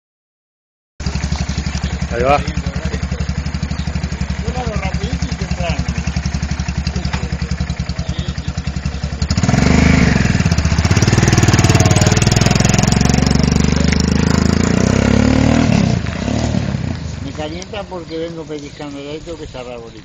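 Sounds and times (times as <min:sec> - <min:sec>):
motorcycle engine idling and revving: 0:01.0 - 0:20.0.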